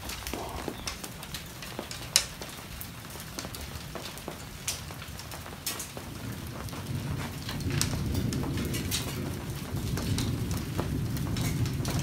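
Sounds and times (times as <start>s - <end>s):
rain falling: 0.0s - 12.0s
raindrops ticking on hard surfaces: 0.0s - 12.0s.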